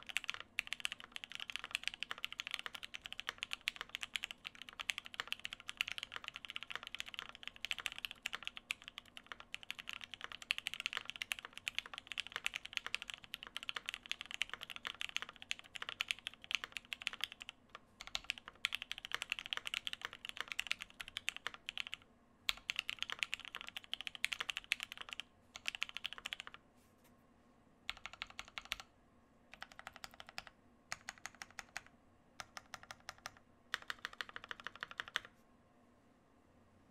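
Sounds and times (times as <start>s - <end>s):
typing on mechanical keyboard: 0.0s - 26.6s, 27.9s - 28.9s, 29.5s - 35.3s.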